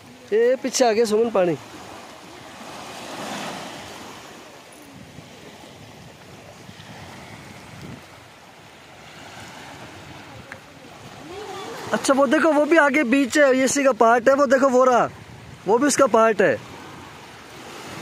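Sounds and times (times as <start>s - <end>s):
small waves washing on sand: 0.0s - 18.0s.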